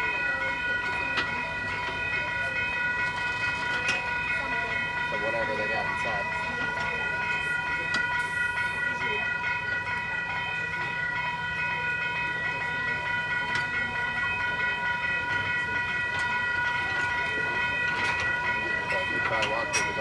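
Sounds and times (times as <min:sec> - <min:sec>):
crossing warning bell ringing: 0:00.0 - 0:20.0
train cars rumbling: 0:00.0 - 0:20.0.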